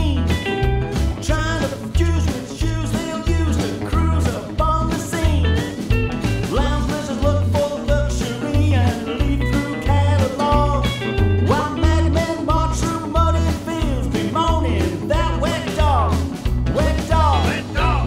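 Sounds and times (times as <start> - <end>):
man singing: 0.0 - 0.5, 1.1 - 5.7, 6.4 - 18.0
plucked double bass: 0.0 - 18.0
rock and roll band: 0.0 - 18.0.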